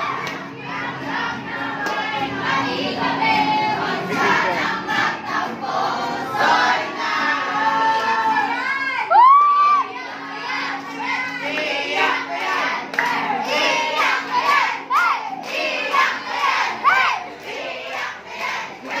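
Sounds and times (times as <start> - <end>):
young people singing in chorus: 0.0 - 9.1, 9.7 - 19.0.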